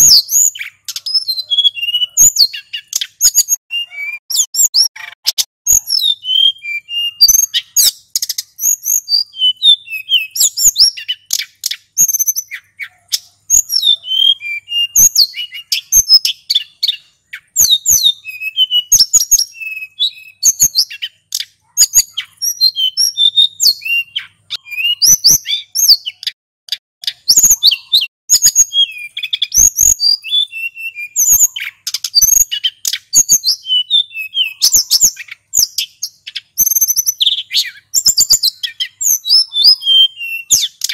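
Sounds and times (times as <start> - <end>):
bird singing whistled phrases: 0.0 - 26.4, 27.0 - 40.9.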